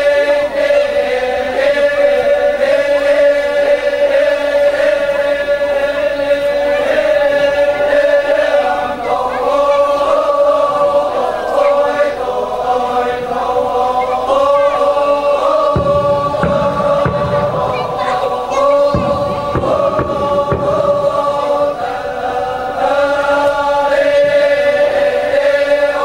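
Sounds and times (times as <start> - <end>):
group chanting: 0.0 - 26.0.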